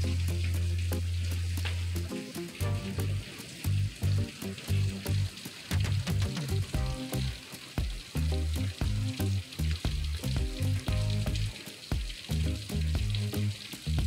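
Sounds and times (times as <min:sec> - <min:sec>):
drips and taps: 0:00.0 - 0:14.0
music with bass line: 0:00.0 - 0:14.0
rain falling: 0:00.0 - 0:14.0.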